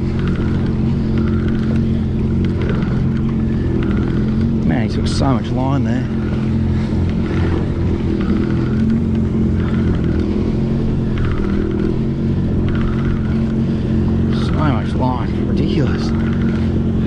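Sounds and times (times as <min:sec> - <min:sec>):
jet ski engine running: 0:00.0 - 0:17.0.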